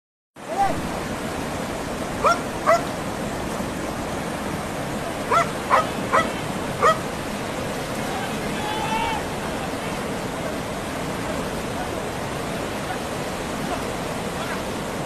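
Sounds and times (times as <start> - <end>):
rushing river water: 0.4 - 15.0.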